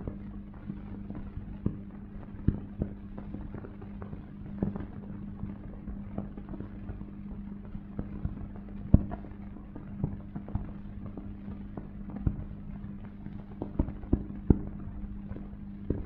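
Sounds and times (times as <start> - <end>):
film surface clicks and pops: 1.1 - 16.0.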